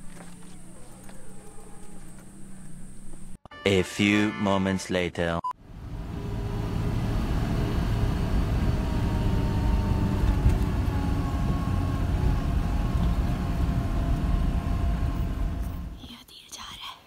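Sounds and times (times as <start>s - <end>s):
car engine and road rumble: 0.0s - 3.4s, 5.6s - 16.2s.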